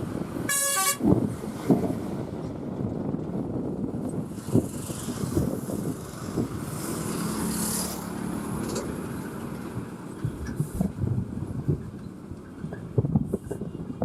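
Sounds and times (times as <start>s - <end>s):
trucks driving past: 0.0s - 14.0s.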